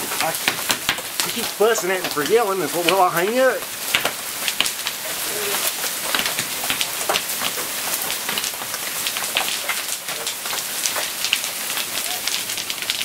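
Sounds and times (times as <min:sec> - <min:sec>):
hailstones striking: 0:00.0 - 0:13.0
heavy rain hissing: 0:00.0 - 0:13.0.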